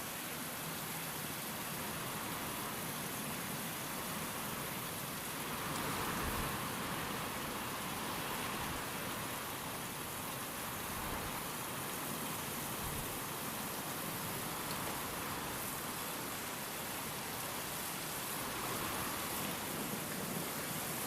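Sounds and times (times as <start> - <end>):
steady rain: 0.0 - 21.0
wind: 0.0 - 21.0.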